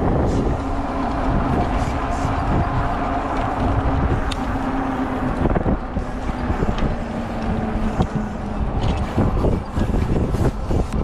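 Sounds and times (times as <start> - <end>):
city traffic: 0.0 - 11.0
steady low hum: 0.0 - 11.0
wind on microphone: 0.0 - 11.0.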